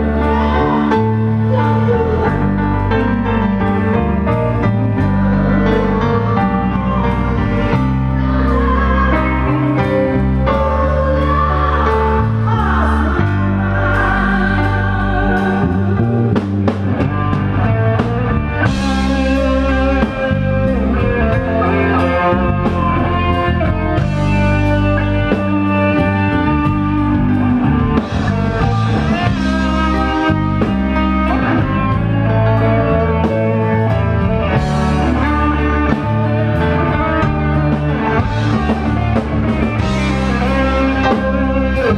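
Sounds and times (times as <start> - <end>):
live band playing: 0.0 - 41.9.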